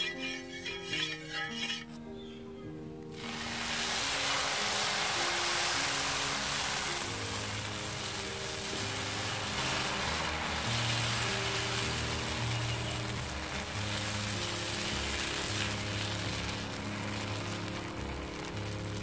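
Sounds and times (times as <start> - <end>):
background music: 0.0 - 19.0
batter sizzling on griddle: 3.1 - 19.0.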